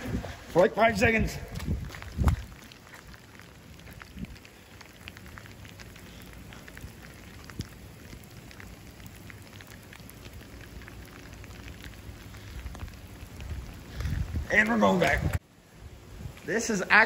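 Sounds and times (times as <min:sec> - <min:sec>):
heavy rain: 0:00.0 - 0:15.4.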